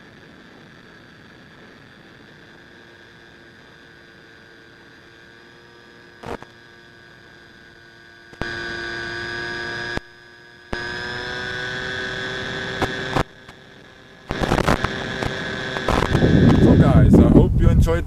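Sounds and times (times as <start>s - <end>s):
electric motor and propeller whine: 0.0s - 18.0s.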